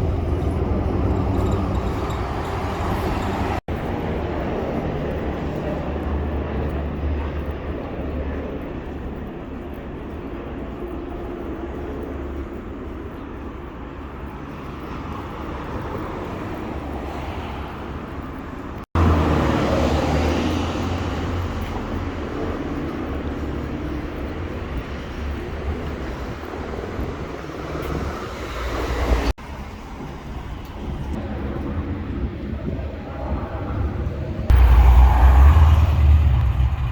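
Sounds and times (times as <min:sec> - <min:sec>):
vehicle traffic rumble: 0:00.0 - 0:36.9.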